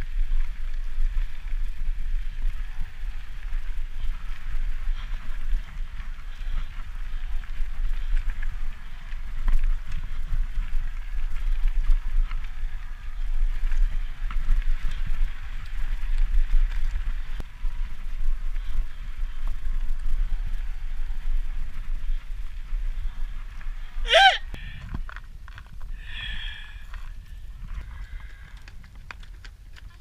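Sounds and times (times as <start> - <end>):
bike clicks and rattles: 0.0 - 24.0, 24.6 - 26.1, 26.8 - 30.0
bike tyres crunching on gravel: 0.0 - 30.0
wind rumble on microphone: 0.0 - 30.0.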